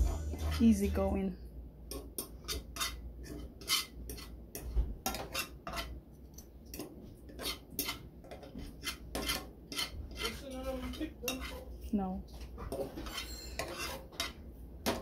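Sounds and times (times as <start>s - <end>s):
spoon scraping a metal pan: 0.0s - 1.1s, 2.2s - 5.9s, 6.7s - 11.8s, 12.7s - 15.0s.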